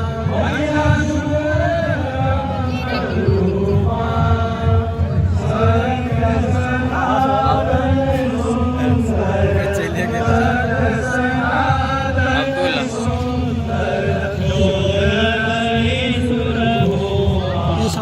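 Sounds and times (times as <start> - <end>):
voices chanting: 0.0 - 18.0.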